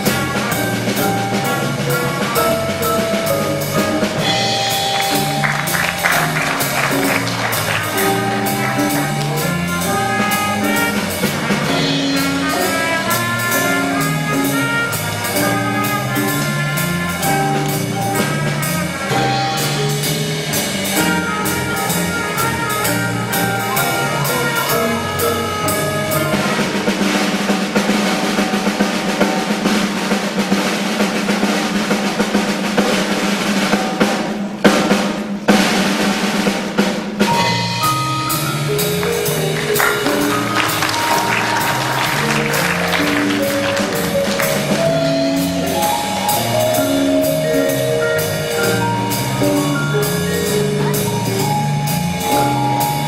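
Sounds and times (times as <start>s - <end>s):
bass line: 0.0s - 27.4s, 37.3s - 53.0s
steady drum beat: 0.0s - 53.0s
wind and brass band: 0.0s - 53.0s.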